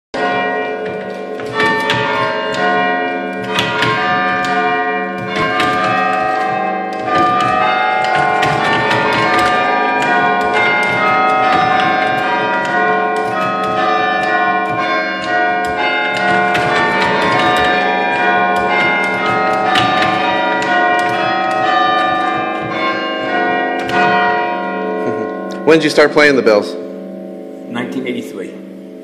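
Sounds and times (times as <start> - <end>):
church chime bells melody: 0.2 - 29.0.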